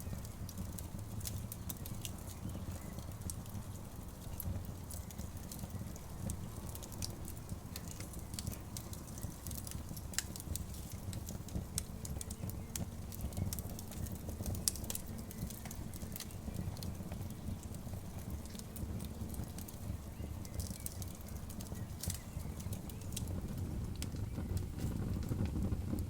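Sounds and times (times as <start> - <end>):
campfire crackling: 0.0 - 26.0
low steady fire rumble: 0.0 - 26.0.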